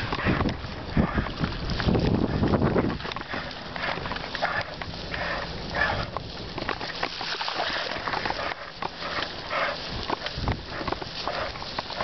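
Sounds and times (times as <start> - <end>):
tyres splashing through puddles: 0.0 - 12.0.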